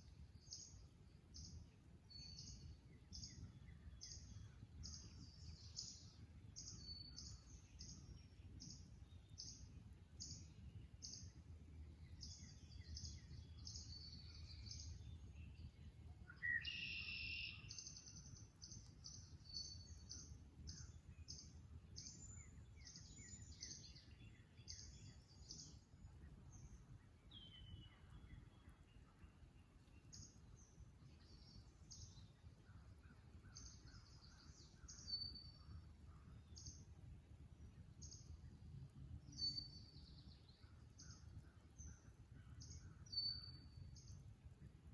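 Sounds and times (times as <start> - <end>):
songbirds chirping: 0.0 - 44.9.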